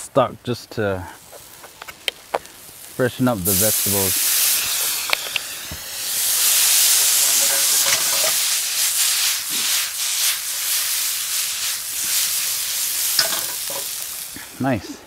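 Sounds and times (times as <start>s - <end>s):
food sizzling in a skillet: 1.1s - 14.8s.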